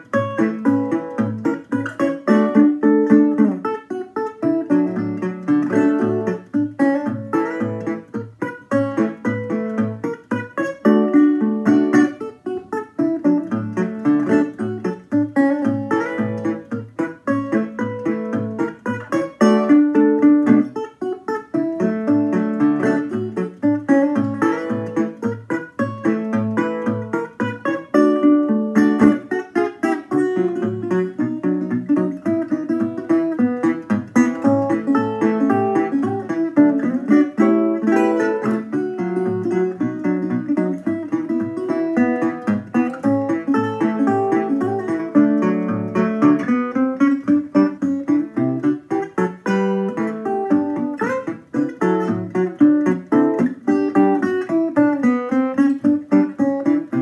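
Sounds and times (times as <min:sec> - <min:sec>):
resonator guitar fingerpicking: 0:00.0 - 0:57.0.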